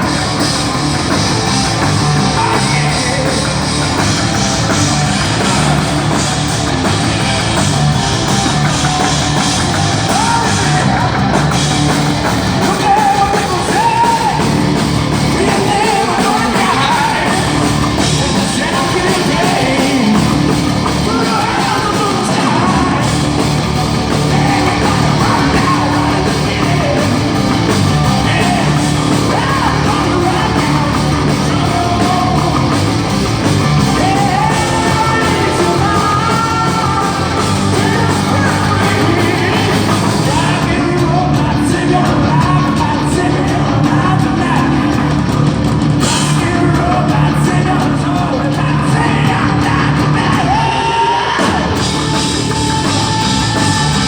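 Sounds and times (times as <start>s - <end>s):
singer yelling and singing: 0.0s - 45.4s, 46.0s - 54.0s
distorted guitars: 0.0s - 54.0s
drums: 0.0s - 54.0s.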